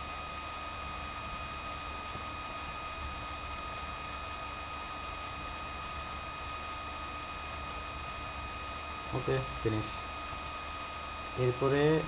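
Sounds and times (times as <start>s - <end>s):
high-pitched electrical whine: 0.0s - 12.0s.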